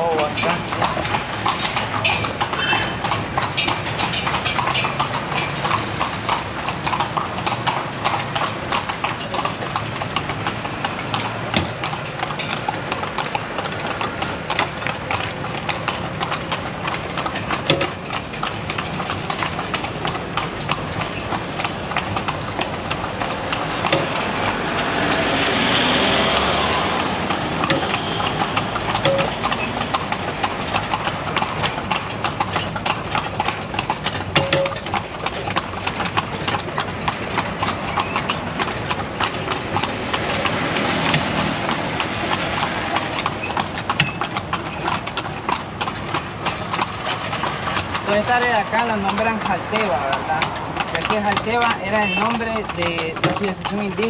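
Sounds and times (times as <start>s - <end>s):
hooves clip-clopping on pavement: 0.0s - 54.0s.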